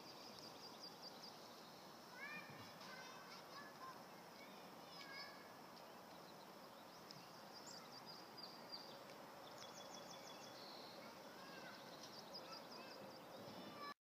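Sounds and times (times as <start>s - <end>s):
songbirds chirping: 0.0s - 14.0s
steady outdoor hiss: 0.0s - 14.0s.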